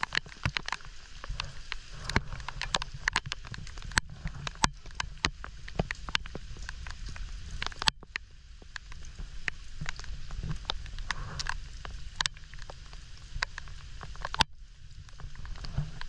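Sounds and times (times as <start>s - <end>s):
rain hissing on water: 0.0s - 16.0s
raindrops tapping on camera: 0.0s - 16.0s
wind rumble on microphone: 0.0s - 16.0s.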